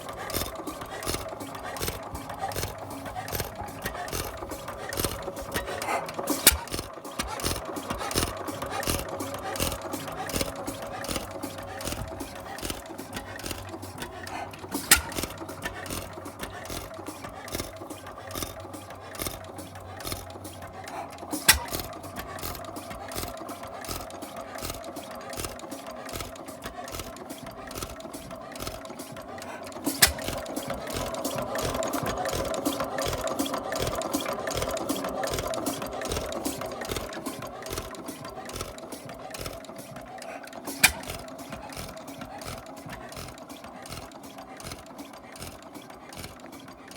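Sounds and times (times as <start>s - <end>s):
stationary engine clattering: 0.0s - 46.9s.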